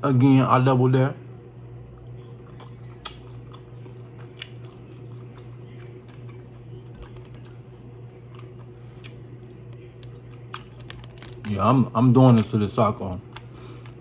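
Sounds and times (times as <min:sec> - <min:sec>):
steady low hum: 0:00.0 - 0:14.0
chewing food: 0:01.2 - 0:14.0
taco shell crackling: 0:02.2 - 0:14.0.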